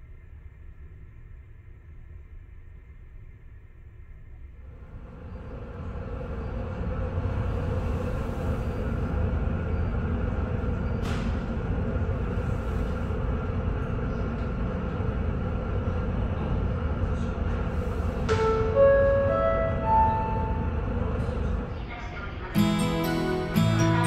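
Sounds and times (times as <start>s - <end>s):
ship engine rumble at sea: 4.6s - 24.0s.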